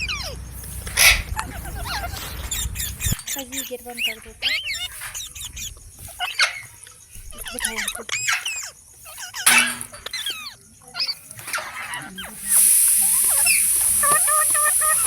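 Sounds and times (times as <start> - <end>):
steady high hiss: 0.0 - 10.4, 11.2 - 15.0
parrots squawking and chirping: 0.0 - 15.0.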